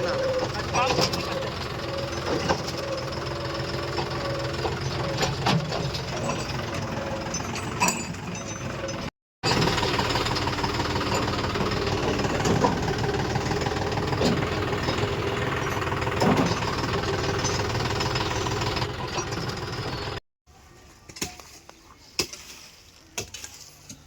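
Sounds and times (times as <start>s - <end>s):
diesel engine knocking: 0.0s - 20.2s.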